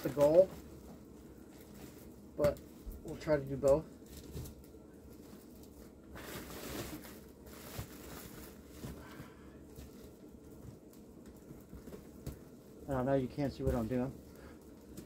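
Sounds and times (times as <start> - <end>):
foil duct rustling: 0.0 - 15.0.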